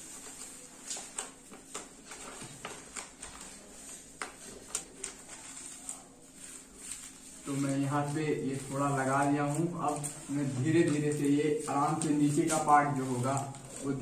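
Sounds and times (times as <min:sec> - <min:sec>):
wallpaper sheet crinkling and crackling: 0:00.0 - 0:14.0.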